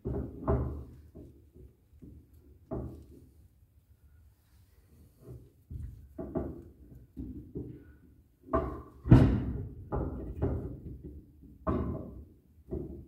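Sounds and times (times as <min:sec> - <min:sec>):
heavy metal clunks and knocks: 0:00.0 - 0:03.2, 0:05.7 - 0:13.0.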